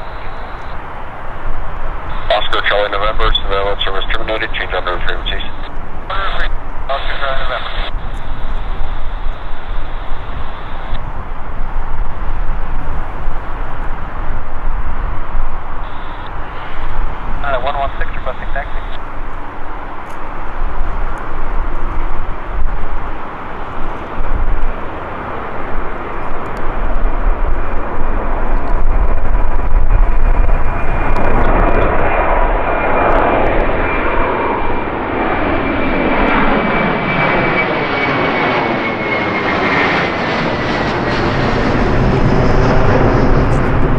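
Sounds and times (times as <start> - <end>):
faint high engine whine: 0.0 - 43.9
jet engines roaring: 0.0 - 43.9.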